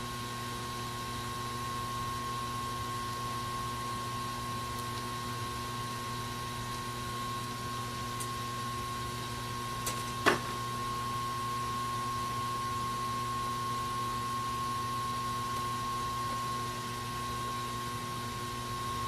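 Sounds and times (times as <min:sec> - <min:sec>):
electrical hum with high whine: 0:00.0 - 0:19.0.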